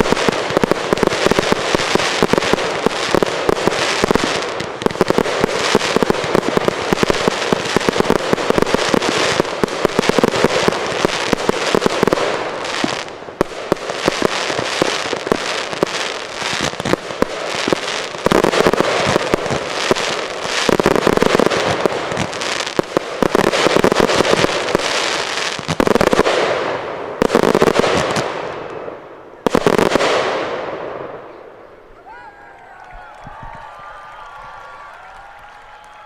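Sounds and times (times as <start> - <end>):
heavy firework bangs: 0.0 - 31.2
fireworks crackling: 0.0 - 31.4.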